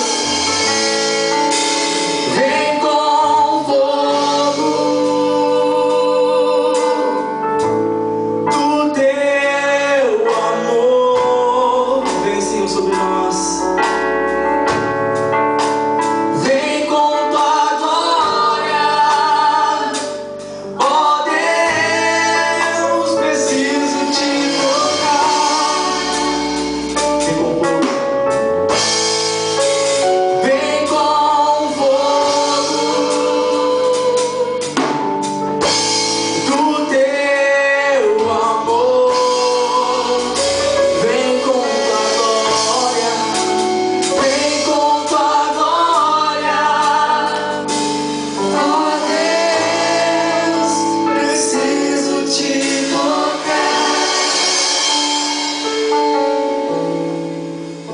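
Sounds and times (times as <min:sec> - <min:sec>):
group singing gospel song: 0:00.0 - 0:14.1, 0:16.0 - 0:28.1, 0:28.7 - 0:56.0
instrumental accompaniment: 0:00.0 - 0:57.9.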